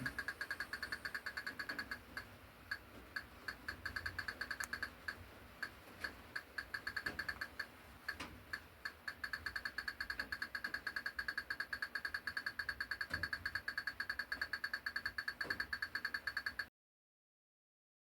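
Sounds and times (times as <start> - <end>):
rapid repeated clicks: 0.0 - 16.7.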